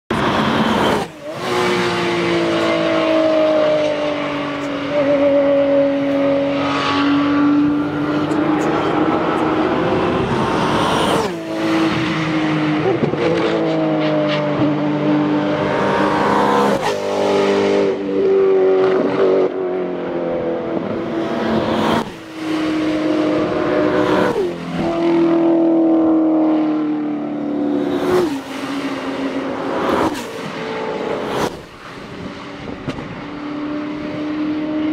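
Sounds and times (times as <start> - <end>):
race cars passing at full throttle: 0.1 - 34.9.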